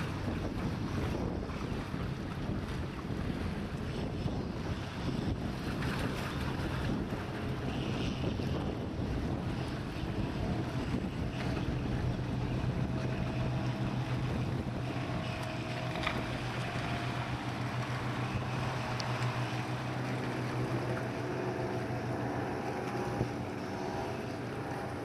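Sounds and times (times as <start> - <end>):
wind rumbling on microphone: 0.0 - 25.0
ferry engines droning: 2.7 - 25.0
wash of water: 4.8 - 25.0.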